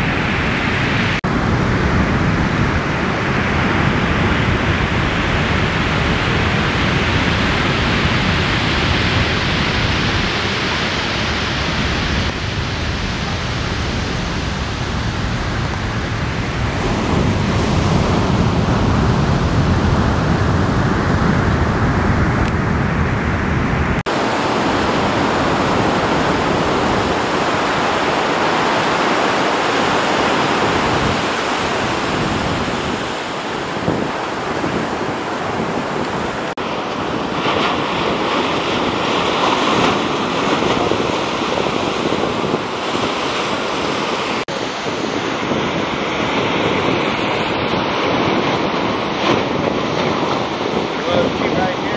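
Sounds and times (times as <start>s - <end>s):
ocean surf breaking: 0.0s - 51.9s
wind rumble on microphone: 0.0s - 51.9s.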